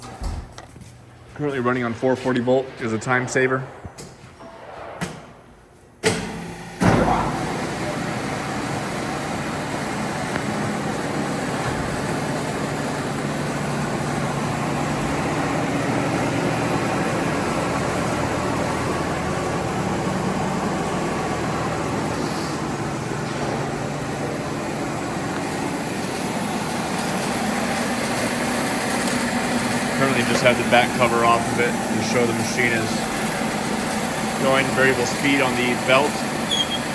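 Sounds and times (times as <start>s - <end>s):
grinder motor humming: 6.8s - 36.9s.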